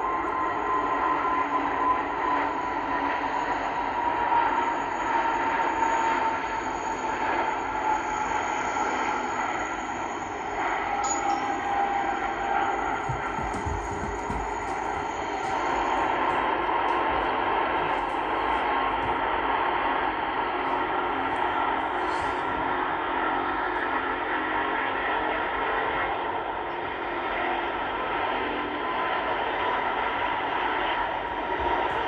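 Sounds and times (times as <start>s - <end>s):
faint steady whine: 0.0s - 32.0s
jet engines running: 0.0s - 32.0s.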